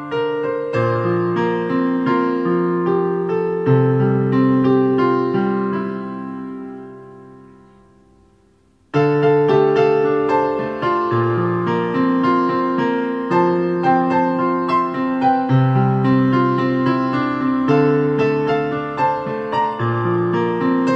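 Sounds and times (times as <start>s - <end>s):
piano music: 0.0s - 20.9s.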